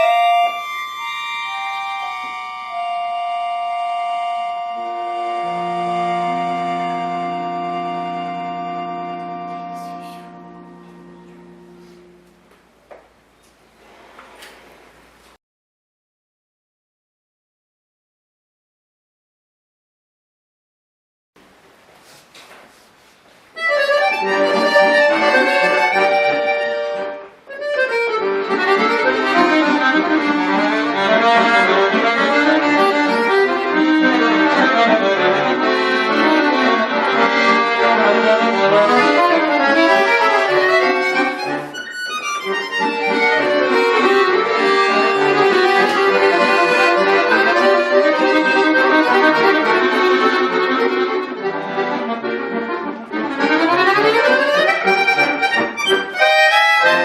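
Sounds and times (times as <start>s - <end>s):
button accordion playing lively piece: 0.0s - 12.5s, 23.6s - 57.0s.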